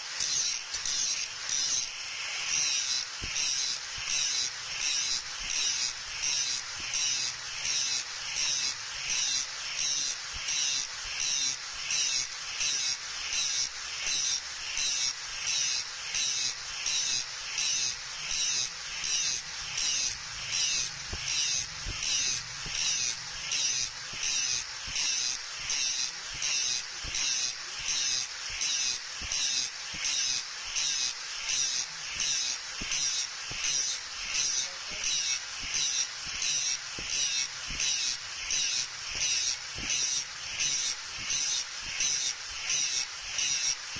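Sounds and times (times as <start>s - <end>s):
angle grinder grinding steel: 0.0s - 43.9s.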